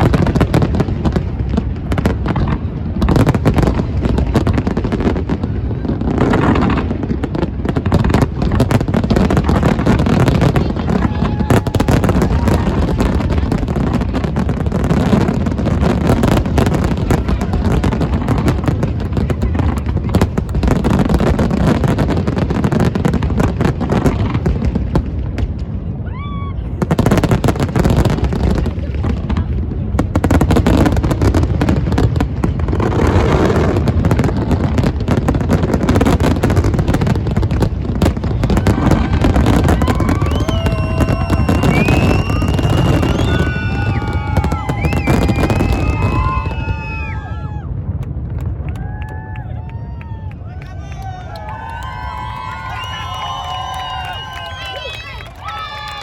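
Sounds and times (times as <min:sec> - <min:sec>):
high fireworks whistles: 0:00.0 - 0:24.8, 0:30.2 - 0:47.7, 0:51.6 - 0:56.0
fireworks booms and crackles: 0:00.0 - 0:56.0.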